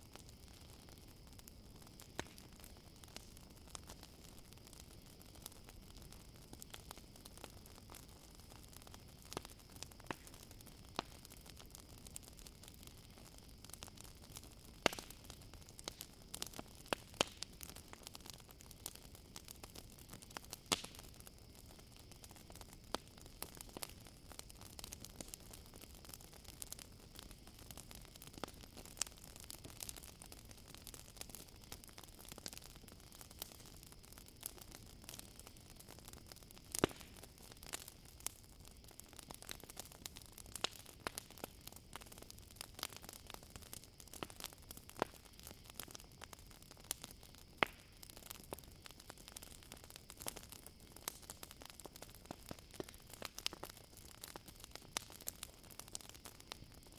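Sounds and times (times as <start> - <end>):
campfire crackling and popping: 0.0 - 56.9
crickets trilling: 0.0 - 56.9.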